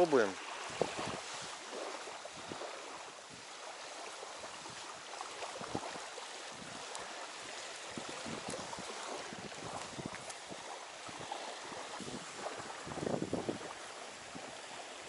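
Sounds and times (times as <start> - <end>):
wind noise: 0.5 - 3.6, 4.2 - 15.0.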